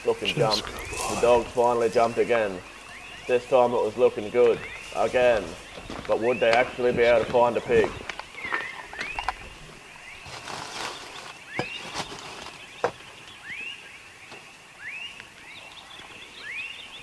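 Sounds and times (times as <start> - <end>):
faint high insect hum: 0.0 - 17.0.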